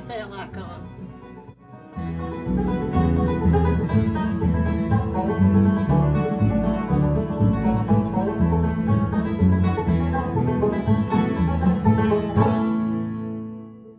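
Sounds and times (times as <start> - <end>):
instrumental background music: 0.0 - 13.9.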